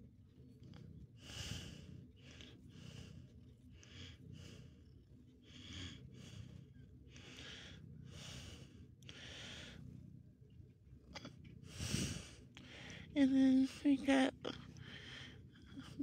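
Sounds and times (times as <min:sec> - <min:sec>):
soft breathing: 0:00.5 - 0:10.2, 0:11.0 - 0:16.0.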